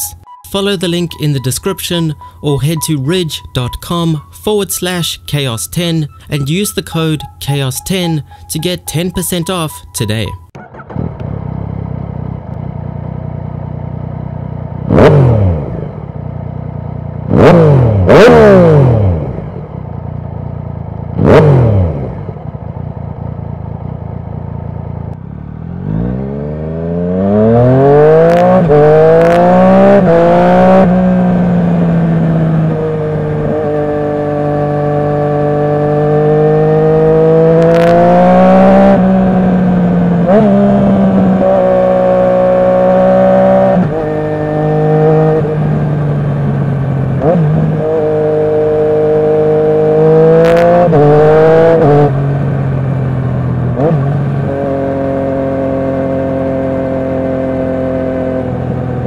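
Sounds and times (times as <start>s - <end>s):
motorcycle engine revving: 10.6s - 59.0s.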